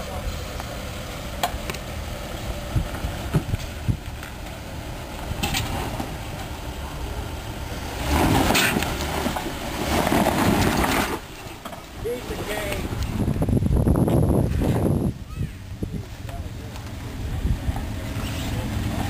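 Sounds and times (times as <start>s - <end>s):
engine running at low speed: 0.0s - 19.0s.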